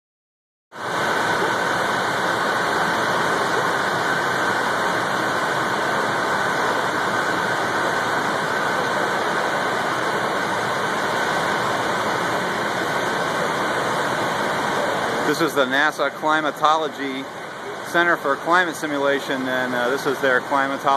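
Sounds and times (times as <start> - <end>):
cooling fans rushing air: 0.8 - 20.9
steady whine: 0.8 - 20.9.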